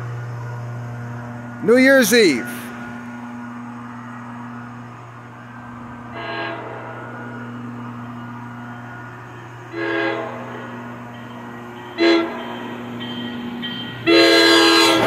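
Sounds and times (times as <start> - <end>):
low engine hum: 0.0 - 15.0
train horn blasts: 0.1 - 15.0.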